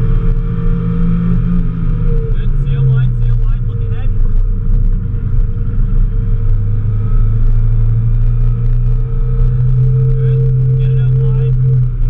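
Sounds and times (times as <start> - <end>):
car engine running hard: 0.0 - 12.0.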